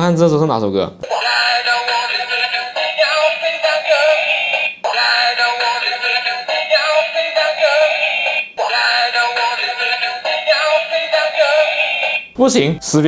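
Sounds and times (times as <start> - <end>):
tinny toy speaker song: 1.0 - 13.0.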